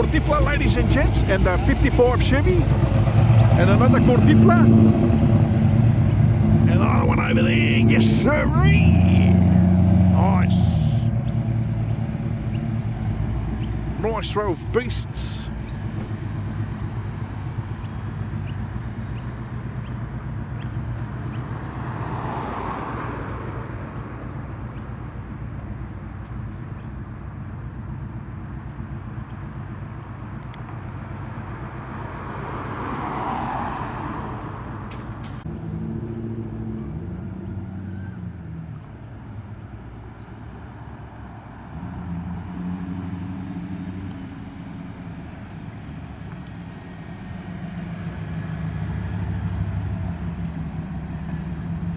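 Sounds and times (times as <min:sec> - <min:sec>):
car engines rumbling: 0:00.0 - 0:51.9
cars passing: 0:00.0 - 0:51.9.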